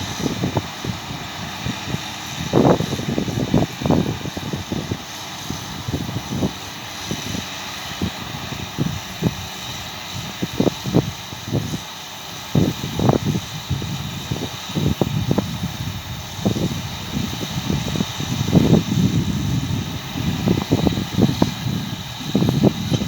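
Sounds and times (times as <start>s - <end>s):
round baler working hay: 0.0s - 23.0s
tractor engine running: 0.0s - 23.0s
wind buffeting microphone: 0.0s - 23.0s.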